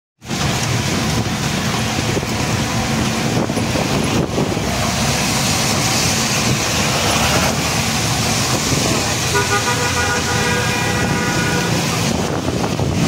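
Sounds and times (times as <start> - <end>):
wind buffeting microphone: 0.2 - 9.4, 10.2 - 13.0
vehicle road noise: 0.2 - 13.0.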